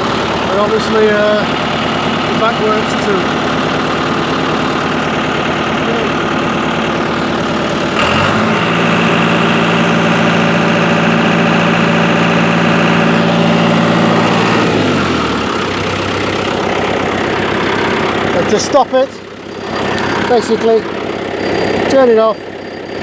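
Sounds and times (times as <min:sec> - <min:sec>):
tractor diesel engine revving: 0:00.0 - 0:23.0.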